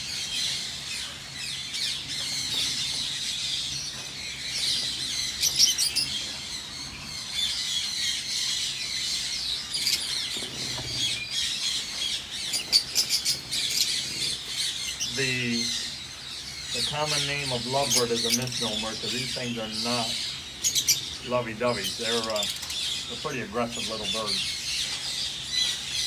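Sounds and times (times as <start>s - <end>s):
birds chattering and squawking: 0.0s - 26.0s.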